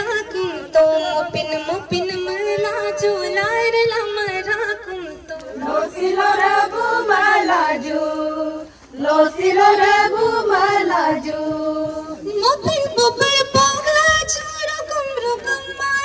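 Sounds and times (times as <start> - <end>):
women singing a chant: 0.0 - 16.0.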